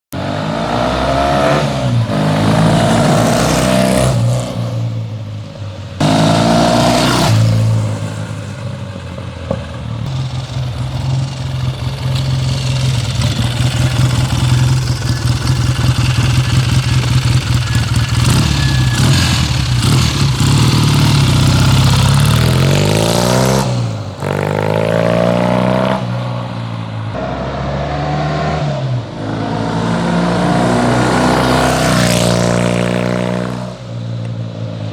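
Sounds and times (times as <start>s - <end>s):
motorcycle engine revving: 0.1s - 5.4s, 6.0s - 34.3s.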